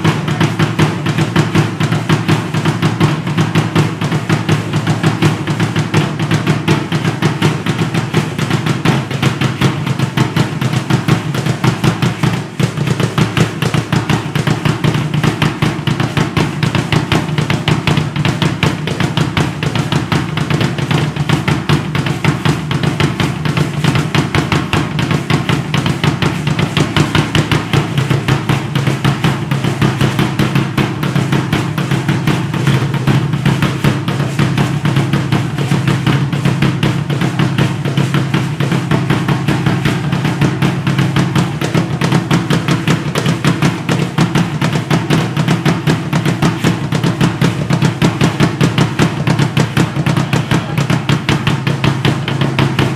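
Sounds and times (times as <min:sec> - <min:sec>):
drums in fast steady beat: 0:00.0 - 0:52.9.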